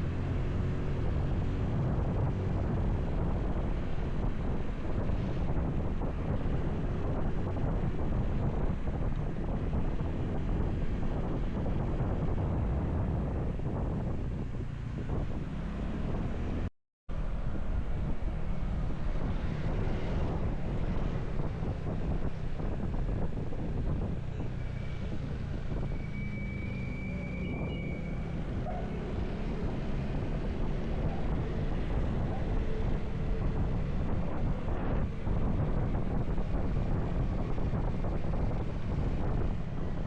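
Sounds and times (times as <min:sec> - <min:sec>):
wind buffeting microphone: 0:00.0 - 0:26.1, 0:27.5 - 0:40.0.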